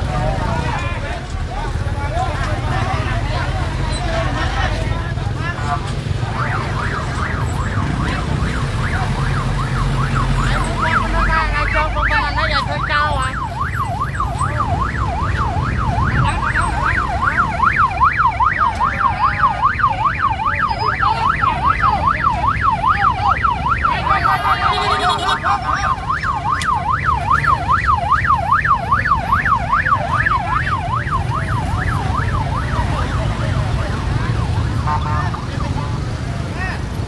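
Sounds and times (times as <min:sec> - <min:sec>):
siren yelping: 0:05.4 - 0:36.1.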